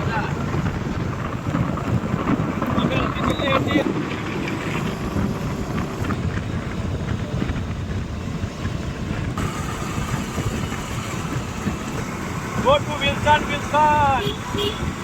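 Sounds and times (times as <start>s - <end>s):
moving vehicle rumble: 0.0s - 15.0s
wind rushing over microphone: 0.0s - 15.0s.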